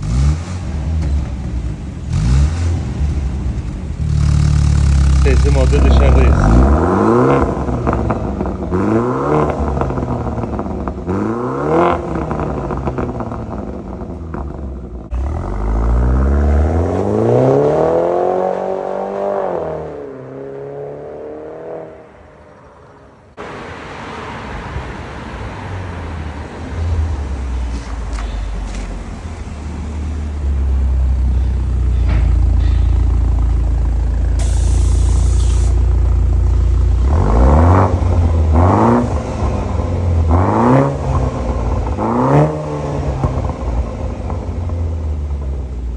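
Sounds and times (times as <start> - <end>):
deep engine rumble: 0.0 - 17.4, 25.5 - 45.9
car engine revving: 0.0 - 45.9.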